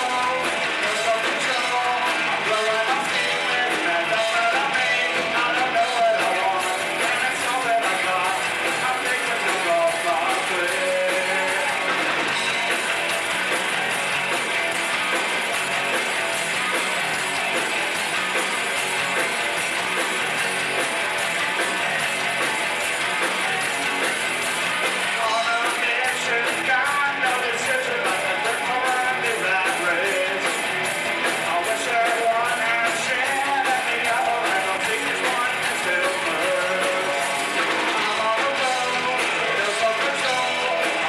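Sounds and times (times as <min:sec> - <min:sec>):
drum and cymbal hits: 0:00.0 - 0:41.0
live rock band playing: 0:00.0 - 0:41.0.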